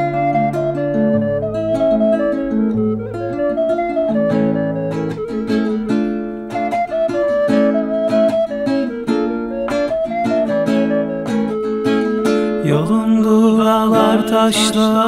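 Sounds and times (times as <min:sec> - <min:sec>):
classical guitar playing: 0:00.0 - 0:15.0.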